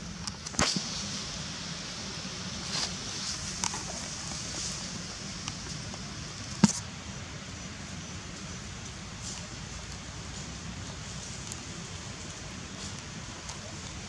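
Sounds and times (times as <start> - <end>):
faint forest hiss: 0.0 - 14.0.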